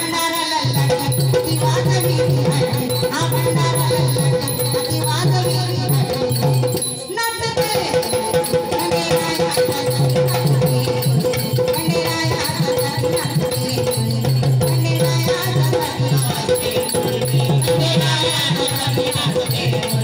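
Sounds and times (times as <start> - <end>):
drum beating steady rhythm: 0.0 - 20.0
rattling percussion: 0.0 - 20.0.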